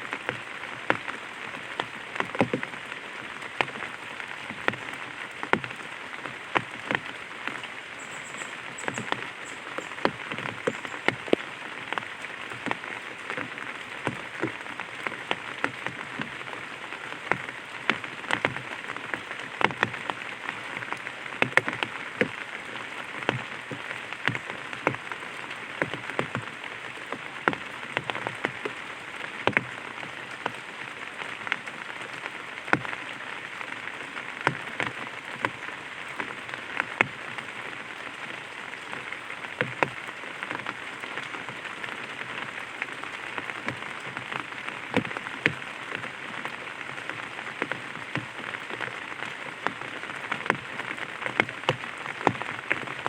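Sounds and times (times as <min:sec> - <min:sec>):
rain hiss: 0:00.0 - 0:53.0
raindrops tapping umbrella: 0:00.0 - 0:53.0.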